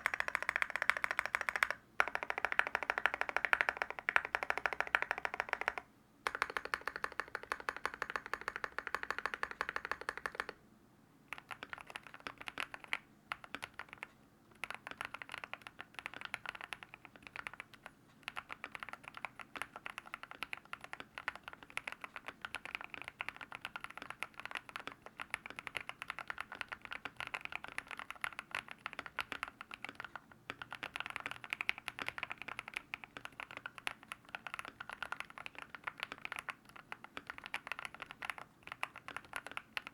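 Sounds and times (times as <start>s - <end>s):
mechanical keyboard typing: 0.0s - 10.6s, 11.3s - 39.9s.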